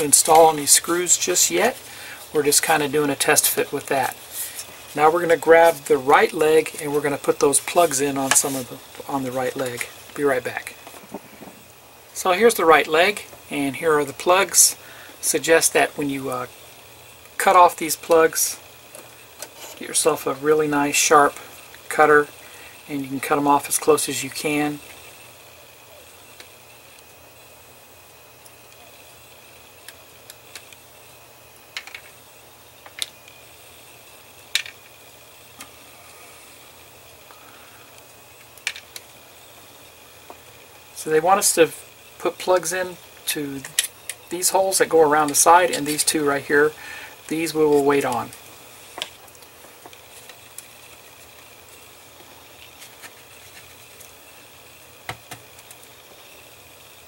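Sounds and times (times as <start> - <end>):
faint hiss and hum: 0.0 - 57.0.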